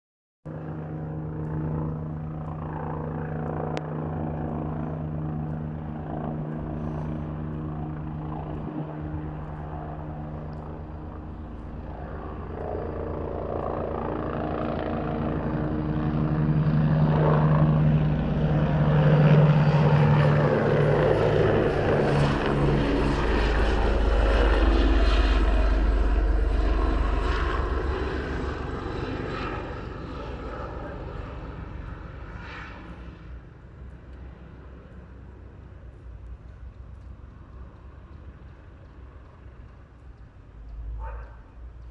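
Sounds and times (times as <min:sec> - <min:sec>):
helicopter rotors and engine drone: 0:00.5 - 0:41.9.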